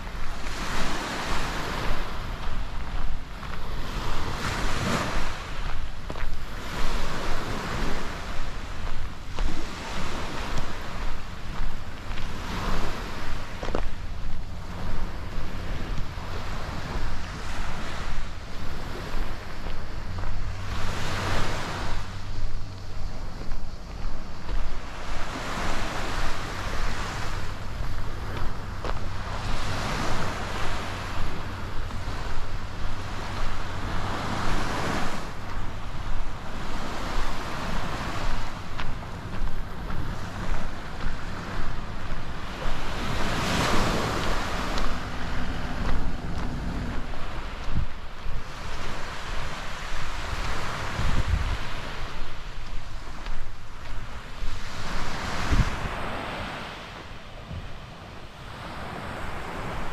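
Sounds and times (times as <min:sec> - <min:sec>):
sea waves washing on beach: 0:00.0 - 0:59.9
wind buffeting microphone: 0:00.0 - 0:59.9.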